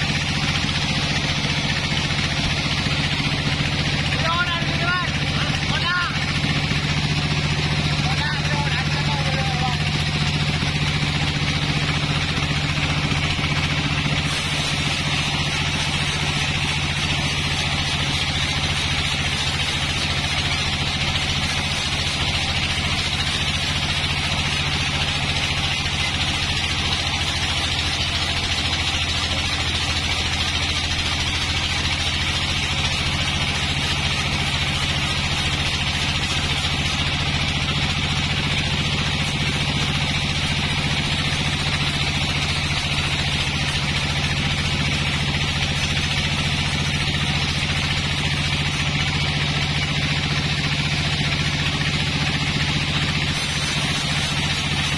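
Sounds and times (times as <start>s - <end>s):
band saw motor hum: 0.0s - 54.9s
saw blade cutting through log: 0.0s - 54.9s.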